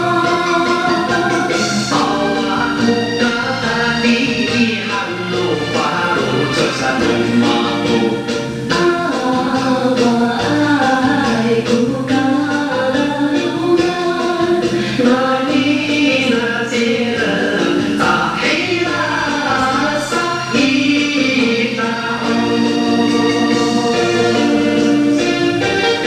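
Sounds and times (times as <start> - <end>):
song with sung vocals: 0.0 - 26.0.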